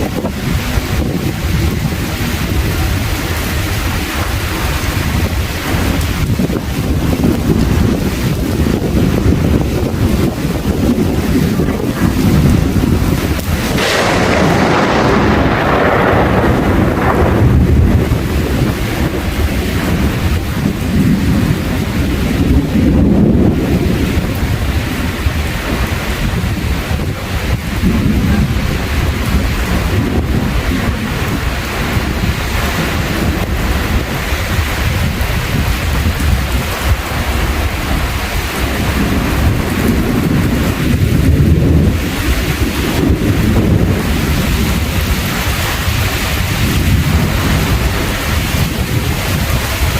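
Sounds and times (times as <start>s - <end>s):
rain falling: 0.0s - 49.9s
thunderclap with rolling rumble: 0.0s - 49.9s.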